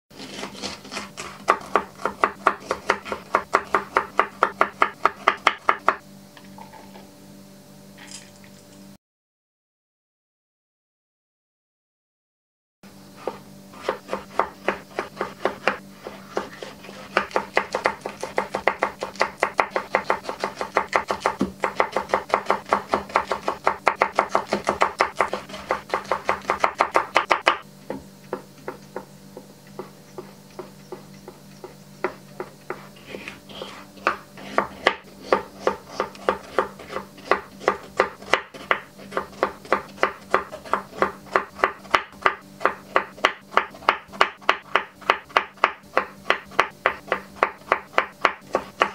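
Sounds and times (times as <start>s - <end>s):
knife chopping on wooden board: 0.2s - 6.0s, 13.2s - 48.9s.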